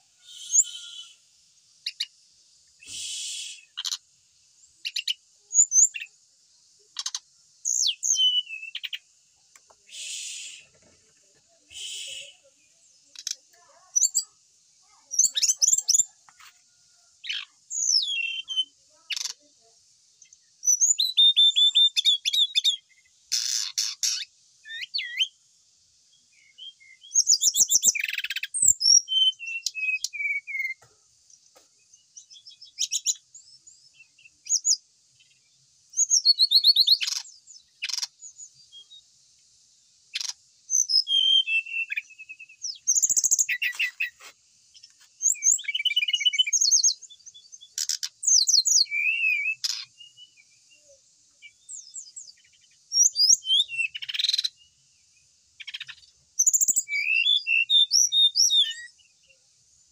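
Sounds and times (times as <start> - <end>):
flycatcher singing: 0.0 - 6.2, 6.8 - 16.5, 17.2 - 25.5, 26.1 - 39.4, 40.1 - 59.9.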